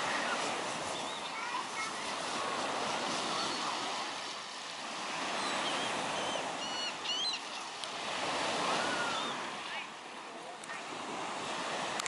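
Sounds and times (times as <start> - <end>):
gentle waves washing onto sand: 0.0 - 12.0.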